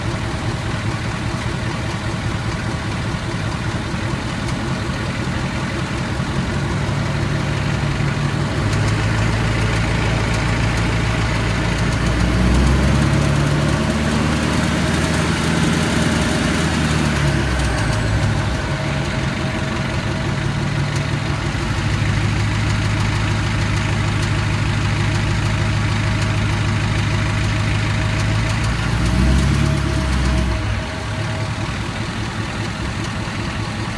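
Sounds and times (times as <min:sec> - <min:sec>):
diesel engine running: 0:00.0 - 0:33.9
engine clicking noise: 0:00.0 - 0:33.9.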